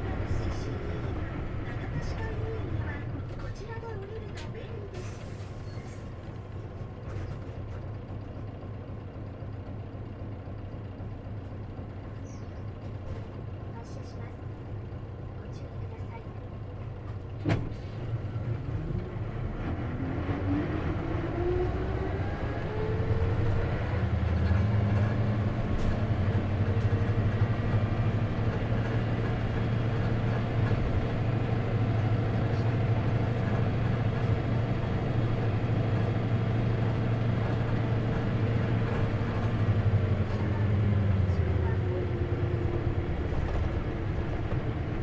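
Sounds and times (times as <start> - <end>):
bus engine accelerating: 0.0 - 45.0.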